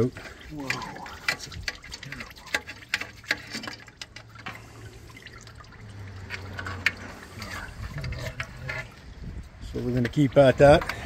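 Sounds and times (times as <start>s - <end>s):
fuel splashing and dripping: 0.0s - 11.0s.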